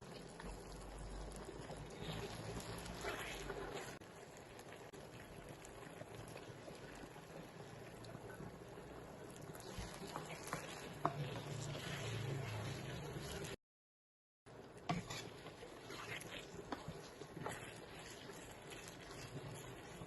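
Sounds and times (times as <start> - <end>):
gravy bubbling in a pan: 0.0 - 13.6, 14.5 - 20.0.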